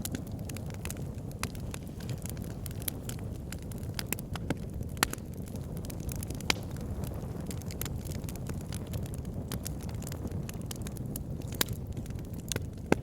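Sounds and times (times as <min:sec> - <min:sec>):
flames rumbling: 0:00.0 - 0:13.0
logs crackling and popping: 0:00.0 - 0:13.0.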